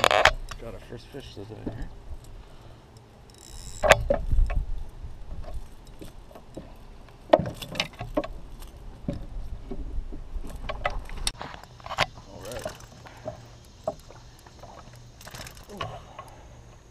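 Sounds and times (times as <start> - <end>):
knocks and clicks in a canoe: 1.5 - 1.9, 3.3 - 16.8.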